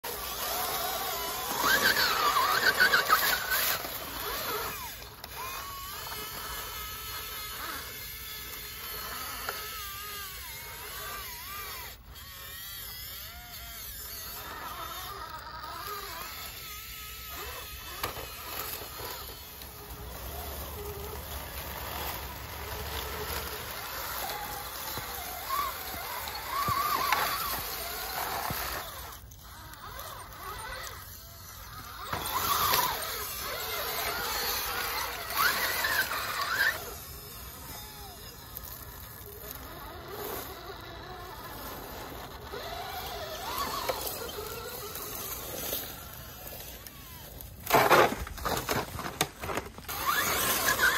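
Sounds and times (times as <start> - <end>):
electric motor whine: 0.0 - 50.9.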